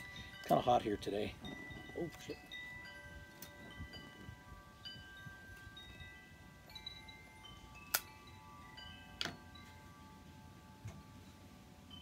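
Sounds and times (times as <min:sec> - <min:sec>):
wind chimes ringing: 0:00.0 - 0:12.0.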